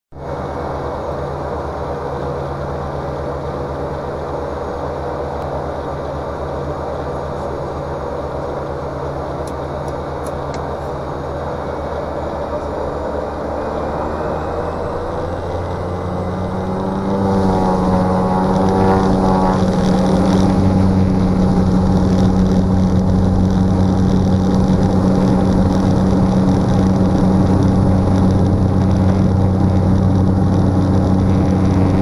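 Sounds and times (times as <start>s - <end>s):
turboprop engine droning: 0.1s - 32.0s.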